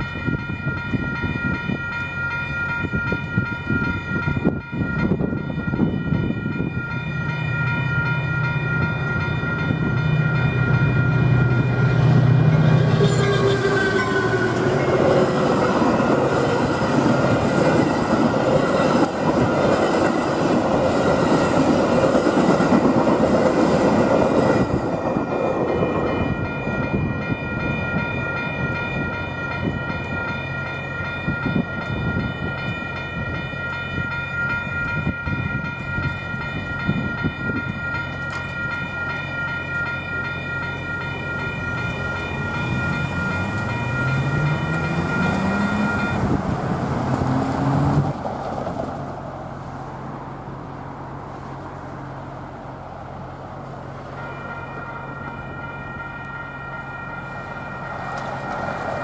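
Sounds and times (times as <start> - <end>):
crossing warning bell ringing: 0.0 - 47.8, 49.4 - 59.0
train cars rushing past: 0.0 - 59.0.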